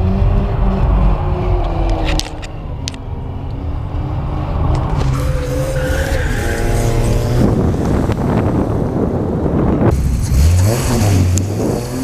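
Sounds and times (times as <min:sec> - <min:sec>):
car engine running hard: 0:00.0 - 0:12.0.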